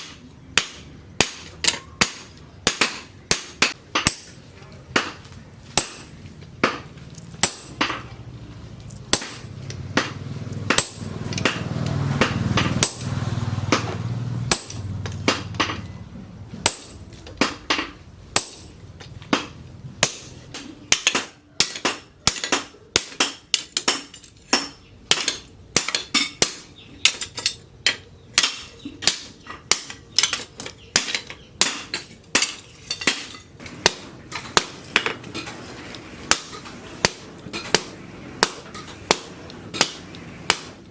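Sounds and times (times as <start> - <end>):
hammer striking steel on anvil: 0.0 - 8.2, 9.1 - 16.0, 16.6 - 18.8, 19.4 - 35.6, 36.2 - 40.9.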